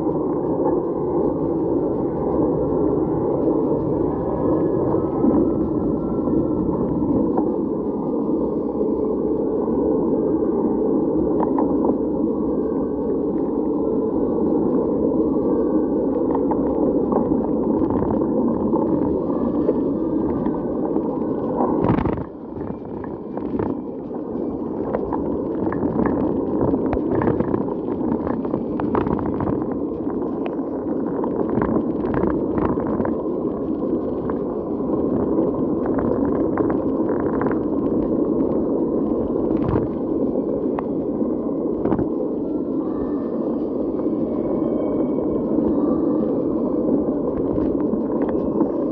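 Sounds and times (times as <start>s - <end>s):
wind and rain on camera: 0.0s - 48.9s.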